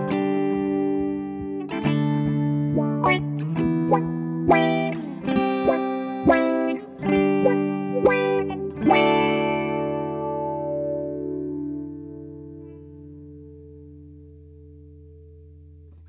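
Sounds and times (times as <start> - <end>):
electric guitars with envelope filter: 0.0 - 16.0.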